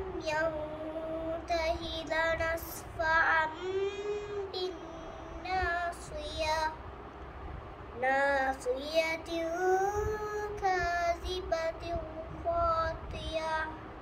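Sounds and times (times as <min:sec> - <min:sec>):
girl chanting melodically: 0:00.0 - 0:06.8, 0:08.0 - 0:13.9.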